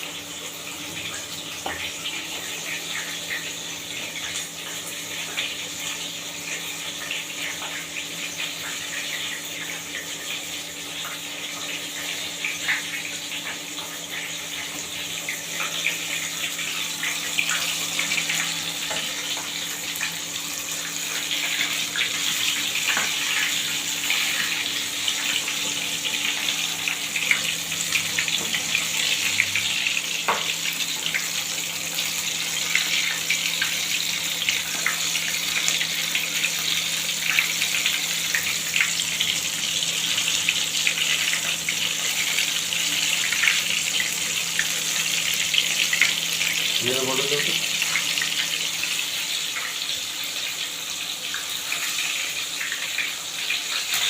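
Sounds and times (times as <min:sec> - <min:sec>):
chicken deep-frying in oil: 0:00.0 - 0:54.0.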